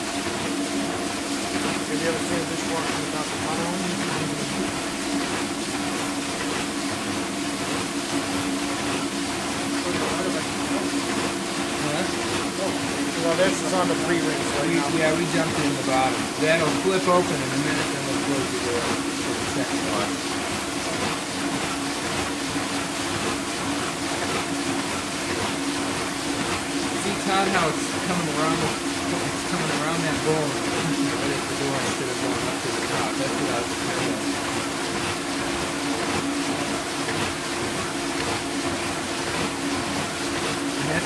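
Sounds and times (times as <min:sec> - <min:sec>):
dishwasher water spraying: 0:00.0 - 0:41.0
wash motor humming: 0:00.0 - 0:41.0.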